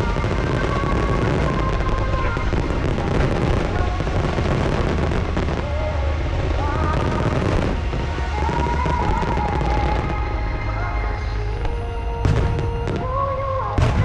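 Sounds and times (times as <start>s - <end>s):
fireworks bursting and crackling: 0.0s - 14.0s
low rumble: 0.0s - 14.0s
music over loudspeakers: 0.0s - 14.0s.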